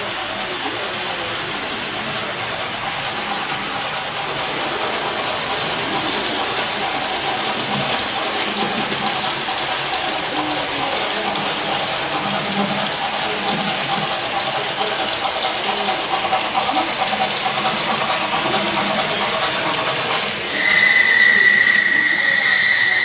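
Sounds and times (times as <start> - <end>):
model train wheels rattling: 0.0 - 23.0.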